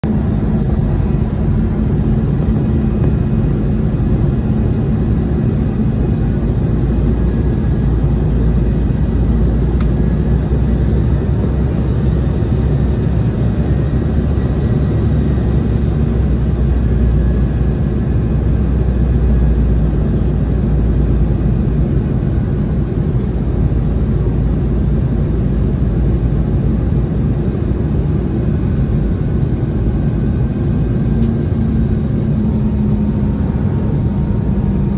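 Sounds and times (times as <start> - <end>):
jet airliner cabin rumble: 0.0 - 34.9.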